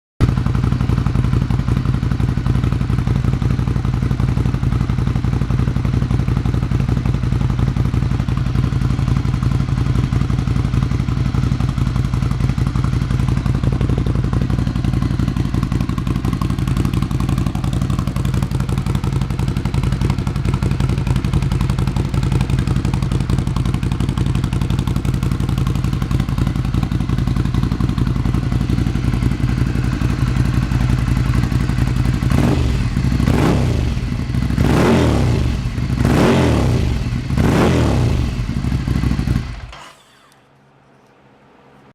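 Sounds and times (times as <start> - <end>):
motorcycle engine idling: 0.2 - 40.4.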